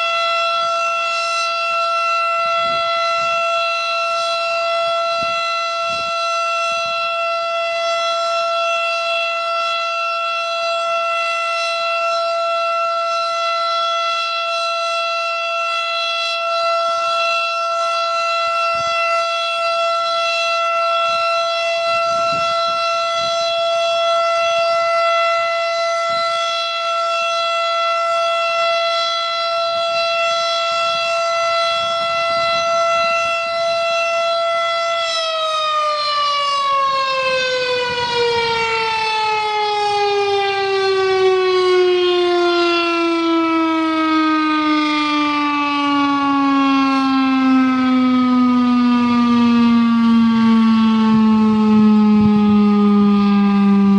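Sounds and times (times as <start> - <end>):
warning siren steady tone: 0.0 - 53.9.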